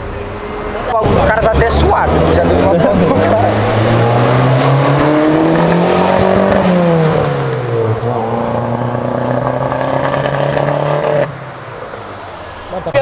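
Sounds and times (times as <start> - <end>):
car engine accelerating past: 0.8 - 11.6.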